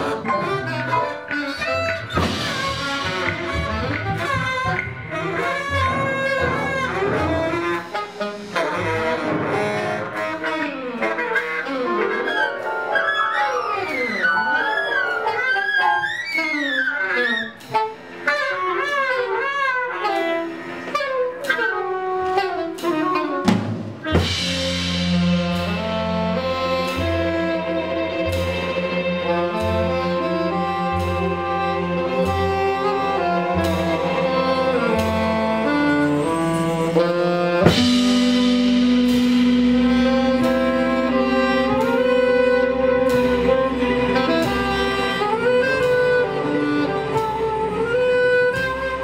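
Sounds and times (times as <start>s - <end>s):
saxophone gliding lines: 0.0s - 23.4s, 24.2s - 49.0s
bass: 0.0s - 49.0s
drums: 0.0s - 49.0s.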